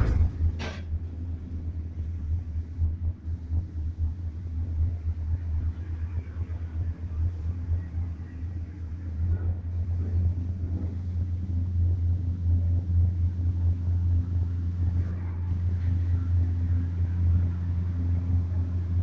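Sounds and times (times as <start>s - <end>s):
cable car cabin rumble: 0.0s - 19.0s.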